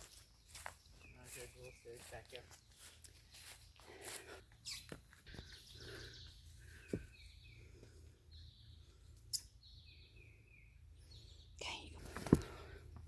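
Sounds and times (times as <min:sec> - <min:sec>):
faint bird chirps: 0:00.0 - 0:12.9.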